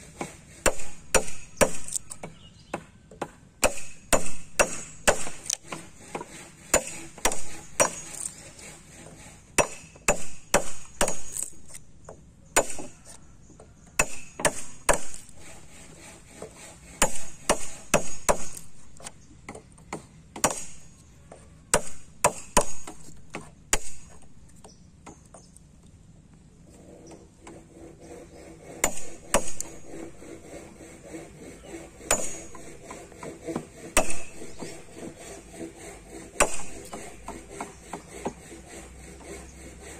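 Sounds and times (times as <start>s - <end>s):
hammer striking wood chisel: 0.1s - 11.8s, 12.5s - 13.2s, 14.0s - 24.2s, 27.4s - 39.9s.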